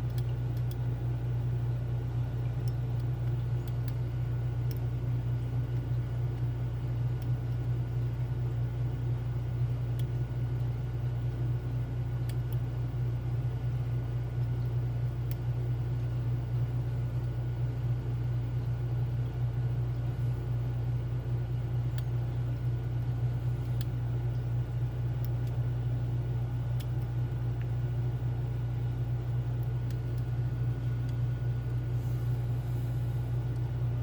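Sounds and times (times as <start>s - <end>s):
low background hum: 0.0s - 34.0s.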